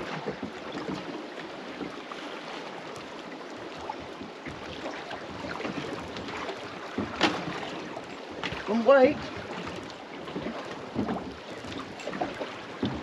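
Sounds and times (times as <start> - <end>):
small waves lapping: 0.0 - 13.0
wind: 0.0 - 13.0.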